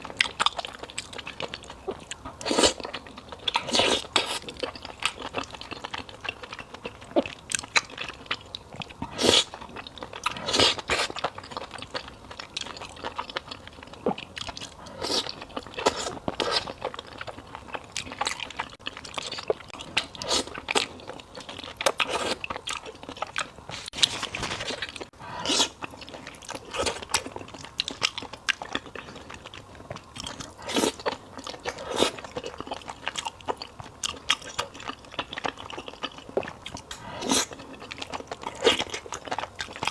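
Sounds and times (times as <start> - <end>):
chewing with wet smacks: 0.0 - 39.9.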